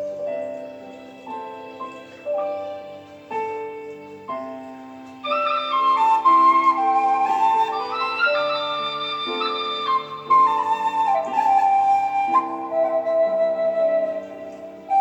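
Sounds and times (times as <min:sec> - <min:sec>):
flute melody: 0:00.0 - 0:15.0
instrumental accompaniment: 0:00.0 - 0:15.0.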